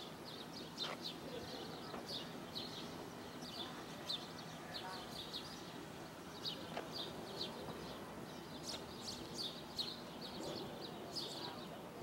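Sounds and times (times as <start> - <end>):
faint outdoor hiss: 0.0 - 12.0
small birds chirping: 0.0 - 12.0.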